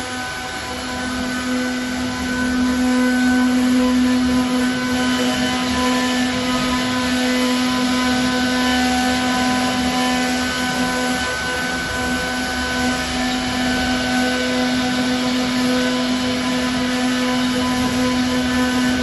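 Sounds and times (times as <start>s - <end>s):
cnc router humming: 0.0s - 19.0s.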